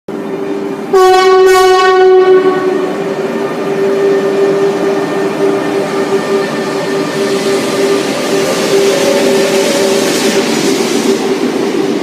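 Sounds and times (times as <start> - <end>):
train pitched tone: 0.1 - 12.0.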